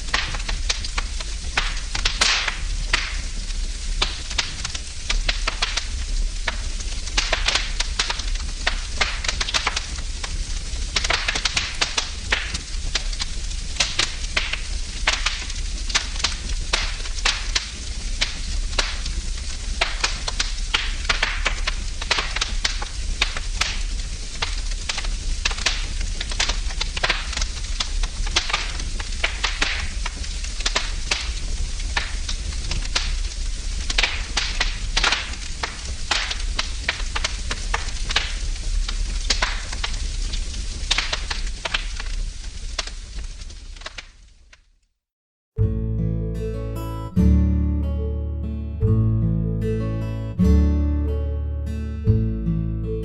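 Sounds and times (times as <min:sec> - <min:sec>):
low hiss of flames: 0:00.0 - 0:44.7
wood fire crackling and popping: 0:00.0 - 0:44.8.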